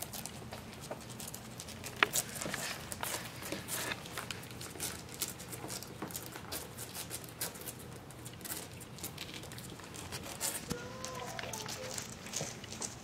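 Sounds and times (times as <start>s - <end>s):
puppies scratching and rustling: 0.0s - 13.0s.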